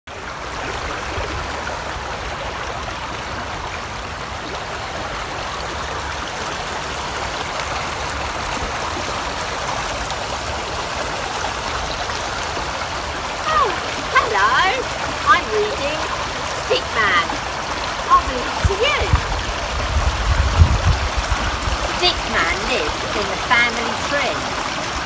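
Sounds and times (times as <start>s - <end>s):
stream rushing: 0.1s - 25.0s.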